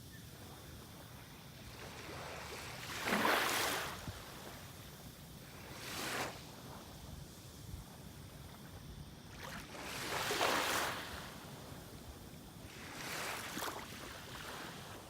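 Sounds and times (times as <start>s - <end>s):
surf washing: 1.2s - 15.0s.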